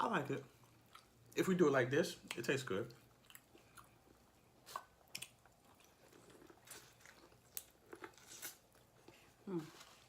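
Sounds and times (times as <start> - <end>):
faint close-up chewing: 0.5 - 1.4, 2.2 - 10.0.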